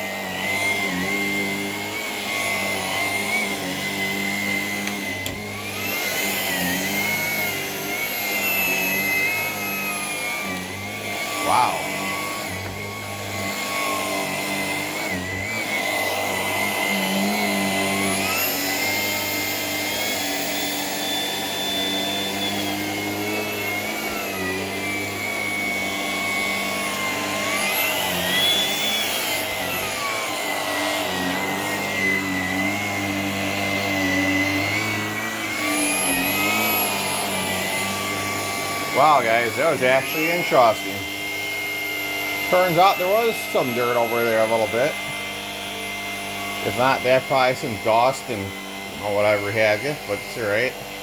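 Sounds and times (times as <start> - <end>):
vacuum cleaner motor whine: 0.0 - 51.0.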